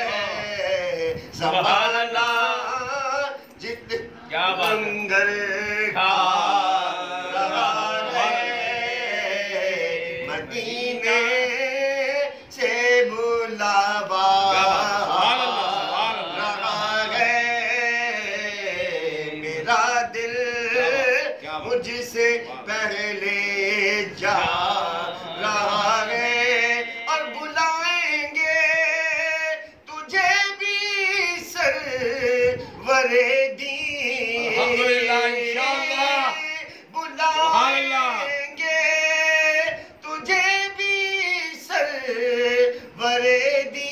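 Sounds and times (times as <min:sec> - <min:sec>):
men singing unaccompanied: 0:00.0 - 0:43.9.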